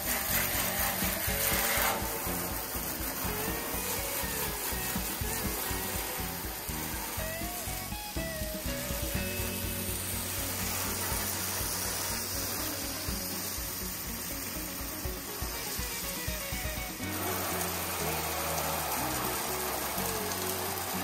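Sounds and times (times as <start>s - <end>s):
background music: 0.0s - 21.0s
water spraying on wooden floor: 0.0s - 21.0s.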